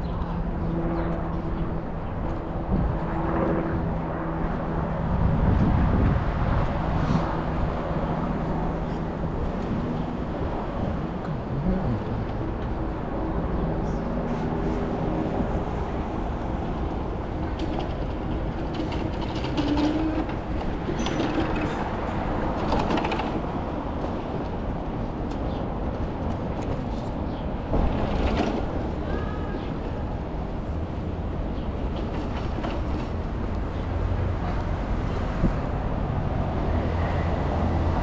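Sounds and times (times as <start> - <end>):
traffic rumble on wet streets: 0.1 - 38.0.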